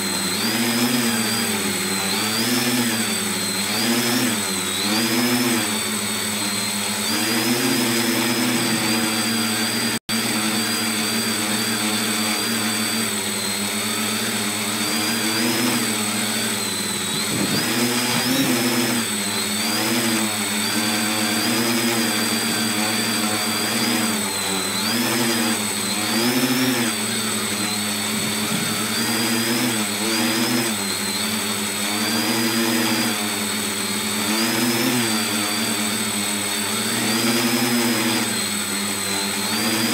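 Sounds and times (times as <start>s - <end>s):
electric motors and propellers whirring: 0.0s - 39.9s.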